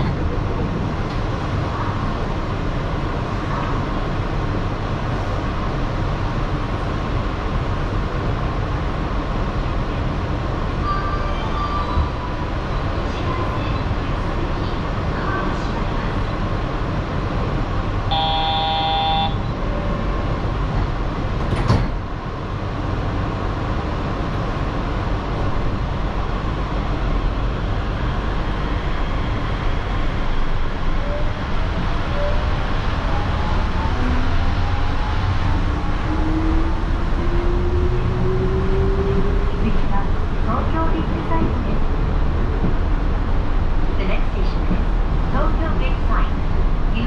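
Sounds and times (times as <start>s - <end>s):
train running noise: 0.0s - 47.0s.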